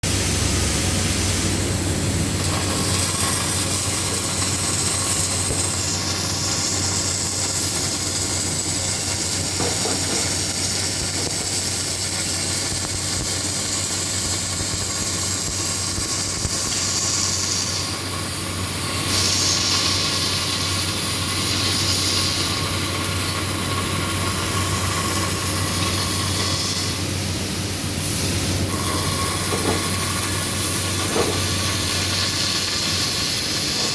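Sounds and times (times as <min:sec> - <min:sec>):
low electrical hum: 0:00.0 - 0:33.9
welding arc hissing and crackling: 0:00.0 - 0:33.9.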